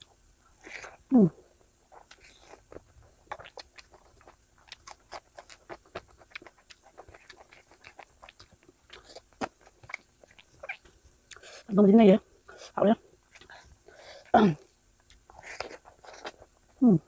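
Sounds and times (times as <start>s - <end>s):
close chewing and lip smacks: 0.0s - 11.7s, 12.4s - 16.8s.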